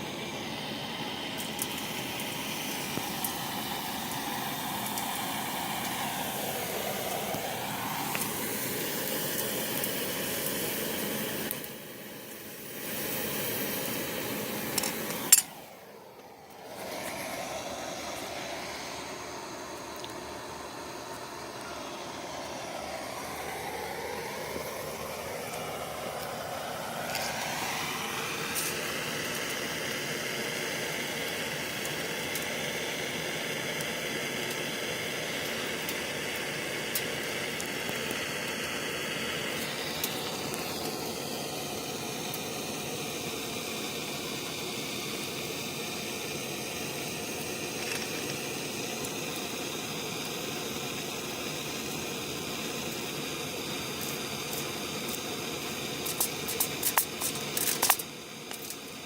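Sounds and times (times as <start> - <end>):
hot metal hissing and sizzling: 0.0 - 59.0.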